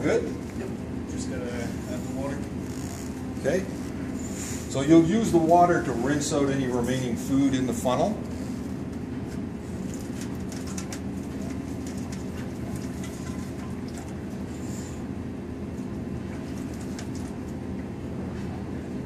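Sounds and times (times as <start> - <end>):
ventilation fan humming: 0.0 - 19.0.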